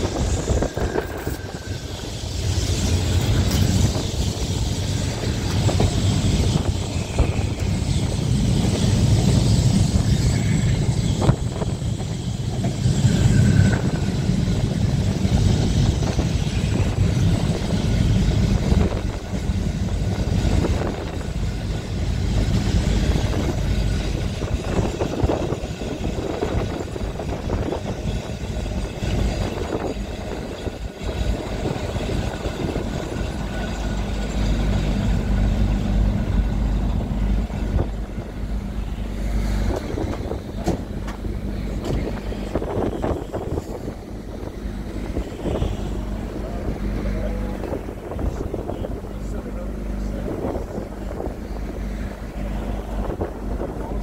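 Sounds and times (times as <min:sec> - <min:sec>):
wind on microphone: 0:00.0 - 0:33.8, 0:36.3 - 0:54.0
tram wheels rumbling on rail: 0:00.0 - 0:54.0.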